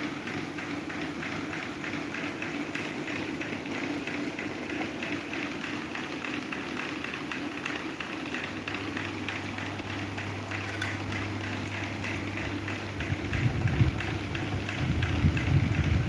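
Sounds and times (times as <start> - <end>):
electric fan whirring: 0.0 - 16.0.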